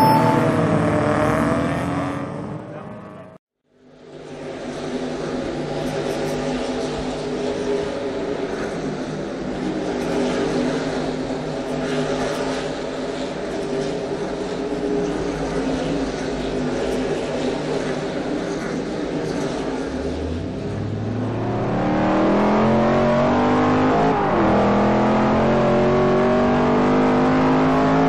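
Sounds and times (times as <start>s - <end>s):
race car engines droning: 0.0s - 3.4s, 4.9s - 28.0s.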